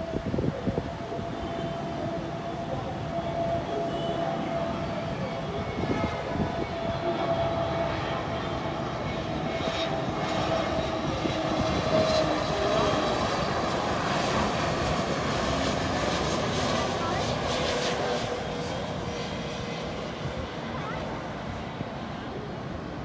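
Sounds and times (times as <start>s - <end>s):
jet engines rumbling and whining: 0.0s - 23.0s.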